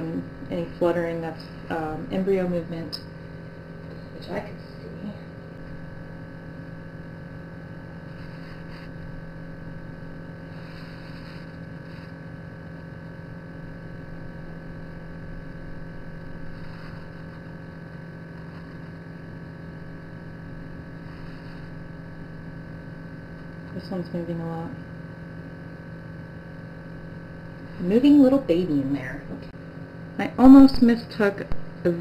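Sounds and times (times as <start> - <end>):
incubator fan motor humming: 0.0 - 32.0.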